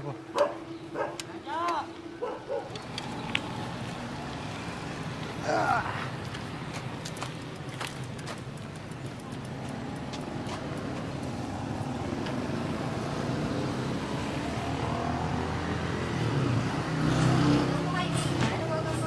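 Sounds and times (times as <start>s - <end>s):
road noise: 0.0s - 19.0s
vehicle engine hum: 0.0s - 19.0s.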